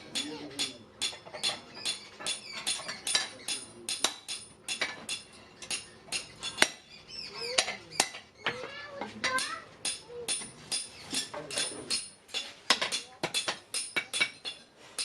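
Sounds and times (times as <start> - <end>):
hammer striking steel on anvil: 0.0 - 6.9, 9.2 - 15.0.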